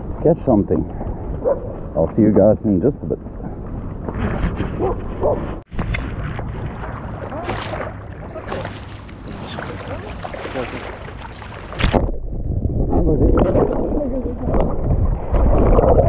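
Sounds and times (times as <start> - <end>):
sea water: 0.0 - 16.0
wind on microphone: 0.0 - 16.0.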